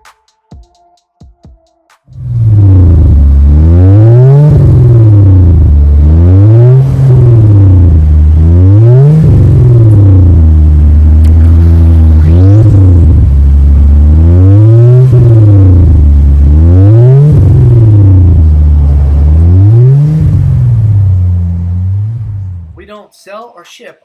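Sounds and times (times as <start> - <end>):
car engine revving: 2.1 - 22.8.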